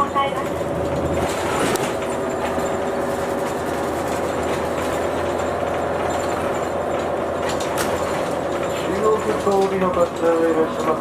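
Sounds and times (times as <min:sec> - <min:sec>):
diesel engine hum: 0:00.0 - 0:11.0
road and cabin noise: 0:00.0 - 0:11.0.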